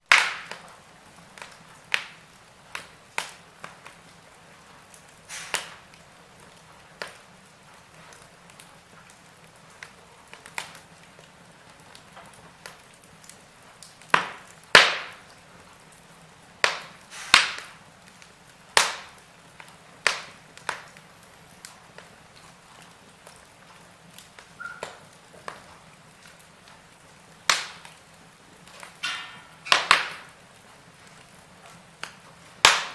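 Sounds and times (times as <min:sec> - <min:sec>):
faint steady hiss: 0:00.0 - 0:32.9
wood fire crackling and popping: 0:00.0 - 0:32.9.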